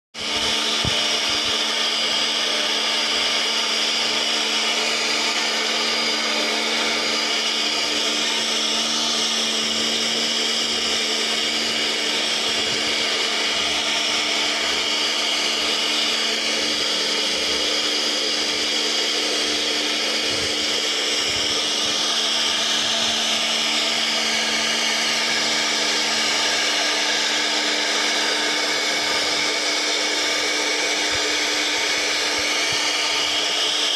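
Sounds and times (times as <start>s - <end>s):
cnc router spindle whine: 0.2s - 33.9s.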